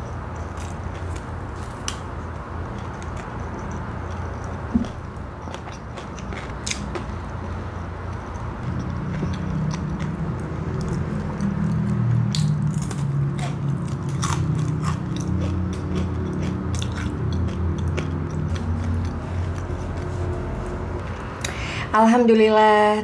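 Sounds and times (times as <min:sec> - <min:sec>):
person chewing crunchy snacks: 0:00.0 - 0:21.6.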